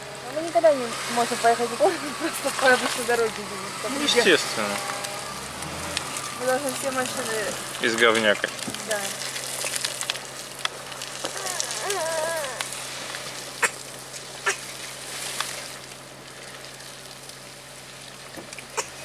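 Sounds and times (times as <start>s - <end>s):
low car hum: 0.0s - 19.0s.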